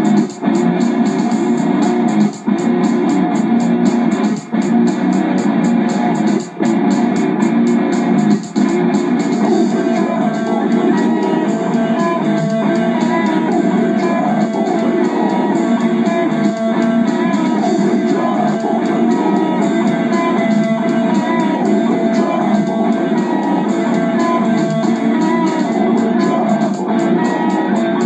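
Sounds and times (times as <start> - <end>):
guitar-driven intro music: 0.0 - 28.0.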